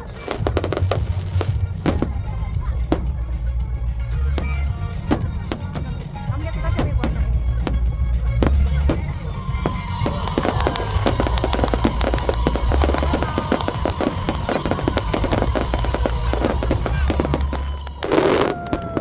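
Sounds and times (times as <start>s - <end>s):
fireworks crackling: 0.0s - 19.0s
loud firework burst: 0.0s - 19.0s
music playing: 0.0s - 19.0s
low rumble: 0.3s - 19.0s.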